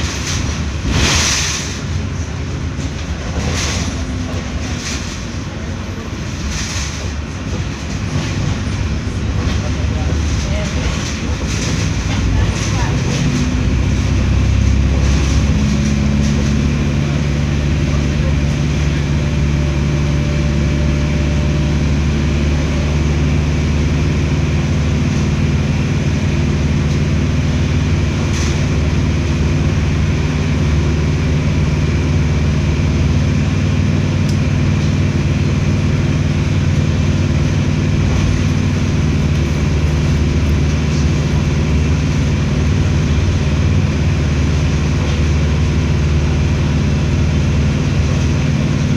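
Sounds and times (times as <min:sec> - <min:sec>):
bus diesel engine running: 0:00.0 - 0:48.9.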